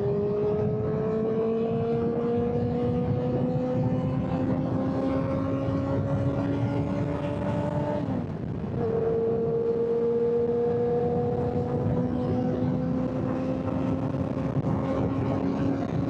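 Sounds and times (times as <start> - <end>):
motorcycle engine at speed: 0.0 - 16.0
wind rush: 0.0 - 16.0.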